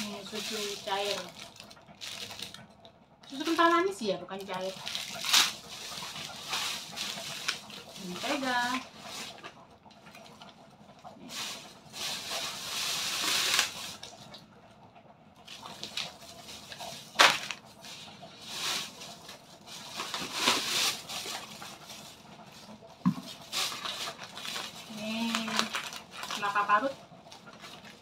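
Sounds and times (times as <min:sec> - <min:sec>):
plastic packets crinkling: 0:00.0 - 0:10.4, 0:11.3 - 0:14.2, 0:15.5 - 0:28.0.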